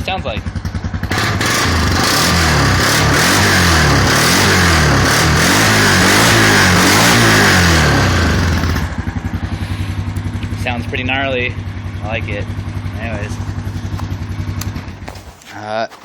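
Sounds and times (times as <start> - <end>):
atv engine revving: 0.0 - 15.2.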